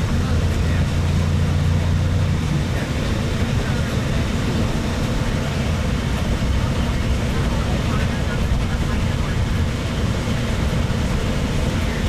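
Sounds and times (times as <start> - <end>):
road rumble: 0.0 - 12.0
vehicle engine drone: 0.0 - 12.0.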